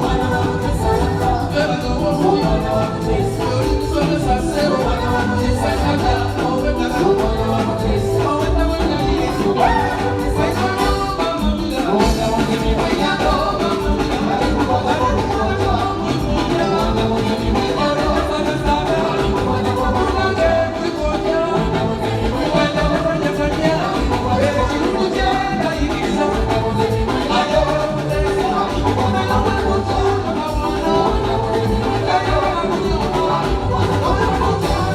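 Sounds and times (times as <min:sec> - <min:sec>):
lead singer singing: 0:00.0 - 0:34.9
live band playing upbeat song: 0:00.0 - 0:34.9.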